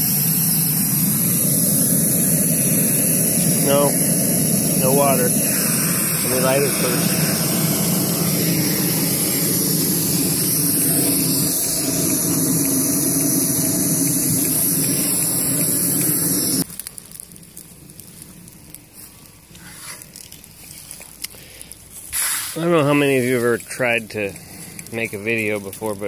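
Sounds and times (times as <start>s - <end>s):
gas torch running: 0.0s - 26.0s.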